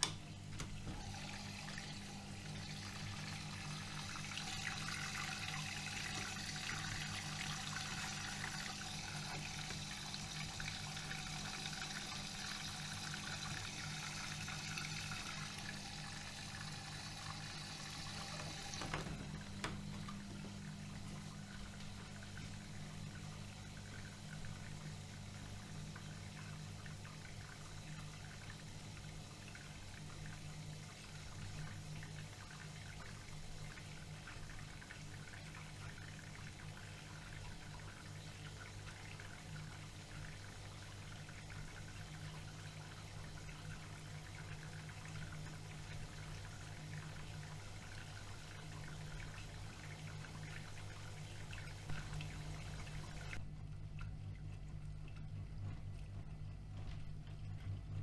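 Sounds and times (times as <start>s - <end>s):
water pouring into washing machine: 0.0s - 58.0s.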